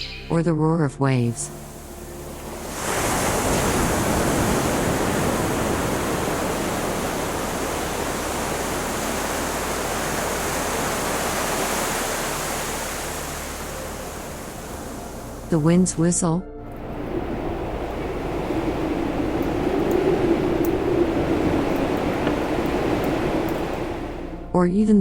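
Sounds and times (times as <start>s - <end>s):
ocean waves breaking: 1.3s - 24.6s.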